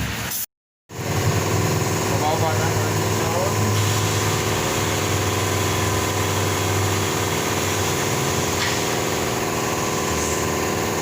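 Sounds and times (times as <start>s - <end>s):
engine idling: 0.9s - 11.0s.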